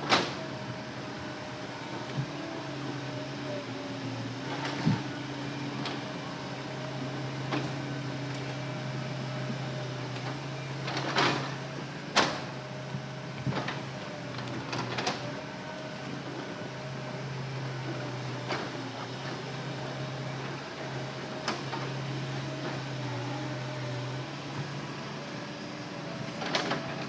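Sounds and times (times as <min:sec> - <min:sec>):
excavator engine hum: 0:00.0 - 0:27.0.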